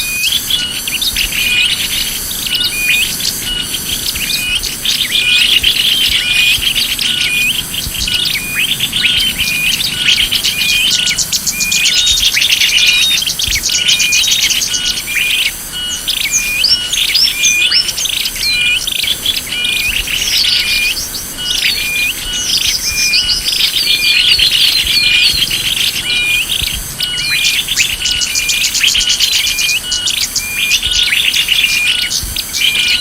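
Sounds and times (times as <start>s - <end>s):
songbirds chirping and trilling: 0.0s - 33.0s.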